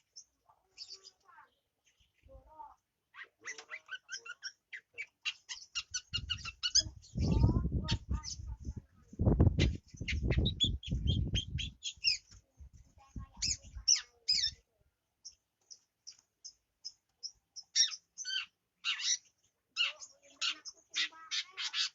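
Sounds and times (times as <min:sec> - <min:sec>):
bird chirping: 0:00.0 - 0:08.6, 0:09.2 - 0:12.5, 0:13.2 - 0:21.9.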